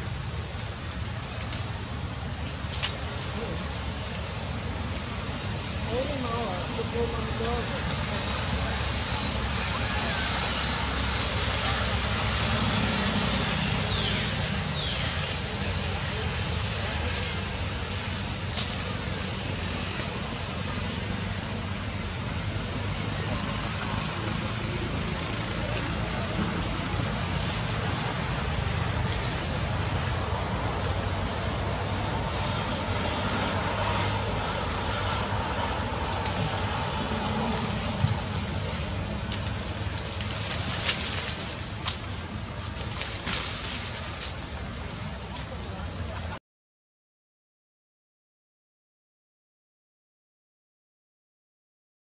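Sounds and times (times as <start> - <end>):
outdoor low rumble: 0.0 - 46.4.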